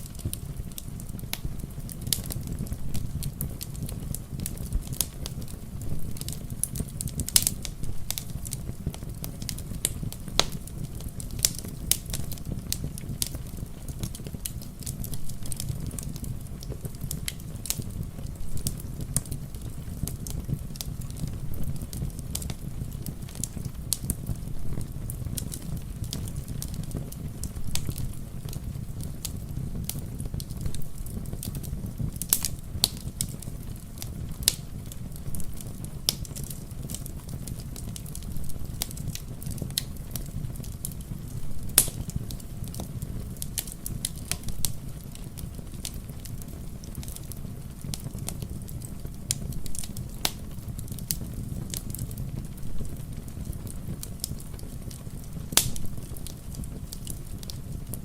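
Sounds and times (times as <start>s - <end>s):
soft rain patter: 0.0s - 58.0s
wood fire crackling: 0.0s - 58.0s.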